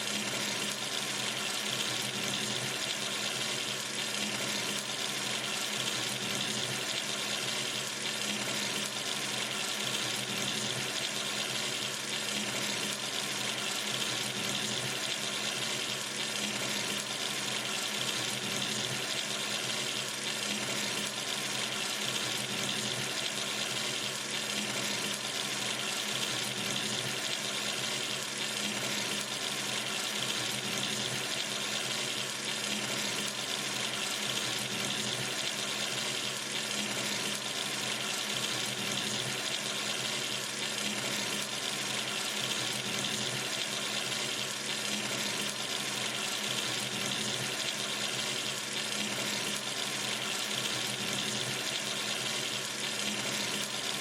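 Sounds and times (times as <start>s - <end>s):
tap water running into sink: 0.0s - 54.0s.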